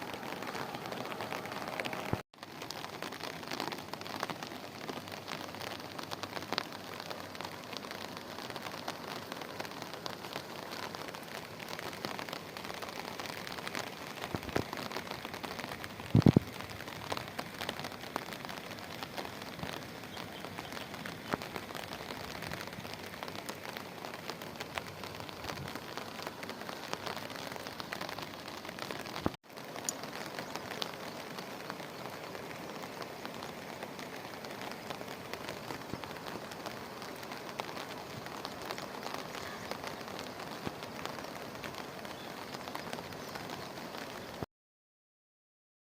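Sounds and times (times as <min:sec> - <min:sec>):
heavy rain falling: 0:00.0 - 0:44.5.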